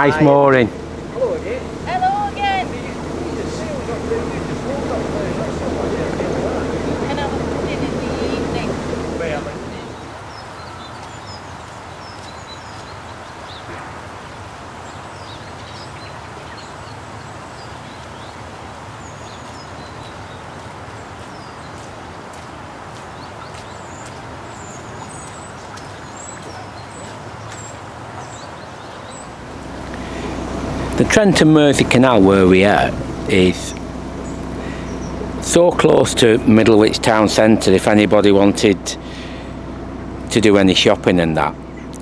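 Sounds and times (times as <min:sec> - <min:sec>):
boat engine hum and hiss: 0:00.0 - 0:42.0
small birds chirping: 0:00.0 - 0:42.0.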